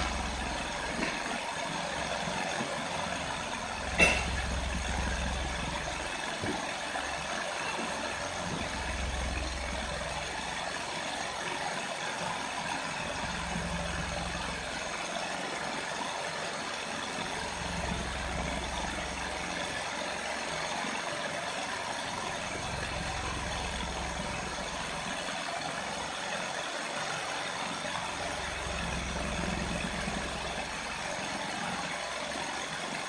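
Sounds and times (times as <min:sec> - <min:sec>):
stirling engine whirring: 0:00.0 - 0:33.0.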